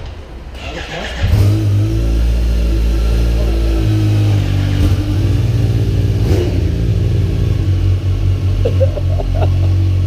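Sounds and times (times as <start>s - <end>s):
motorcycle engine starting and idling: 0.5s - 10.0s.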